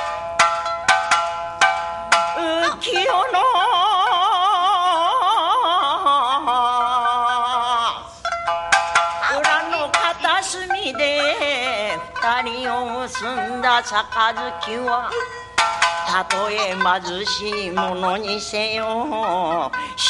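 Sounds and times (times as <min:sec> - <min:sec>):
shamisen plucks: 0:00.0 - 0:20.0
woman singing with vibrato: 0:02.4 - 0:08.3, 0:09.2 - 0:20.0.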